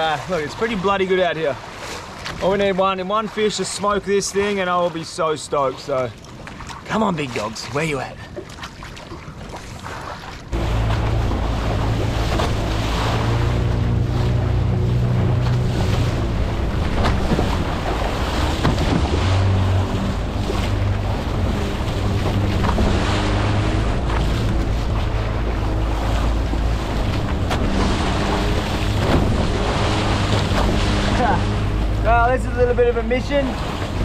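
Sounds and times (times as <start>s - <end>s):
boat engine running: 0.0s - 34.0s
choppy sea against hull: 0.0s - 34.0s.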